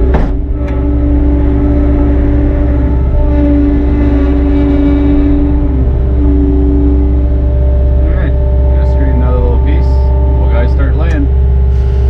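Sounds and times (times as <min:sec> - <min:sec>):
construction machine engine droning: 0:00.0 - 0:12.0.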